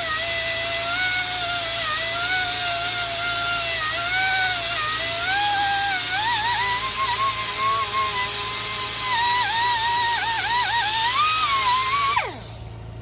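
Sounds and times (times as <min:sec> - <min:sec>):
angle grinder grinding metal: 0:00.0 - 0:12.8.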